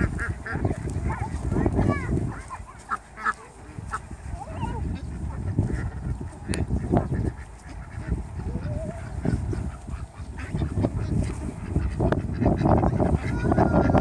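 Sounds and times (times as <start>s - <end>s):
ducks quacking: 0.0s - 14.0s.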